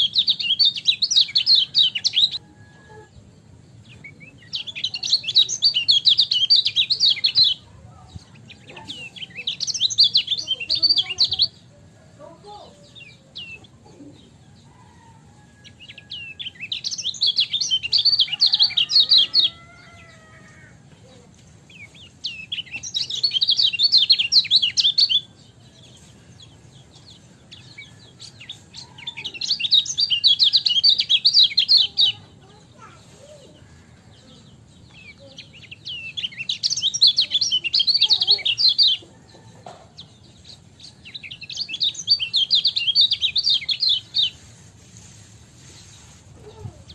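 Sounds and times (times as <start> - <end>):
bird twittering chirps: 0.0 - 11.8, 12.5 - 32.5, 33.6 - 39.3, 40.0 - 44.5.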